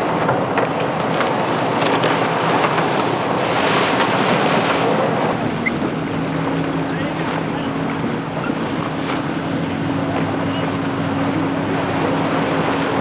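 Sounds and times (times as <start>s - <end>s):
choppy water splashing: 0.0s - 13.0s
motorboat engine droning: 0.0s - 13.0s
wind buffeting microphone: 0.0s - 13.0s.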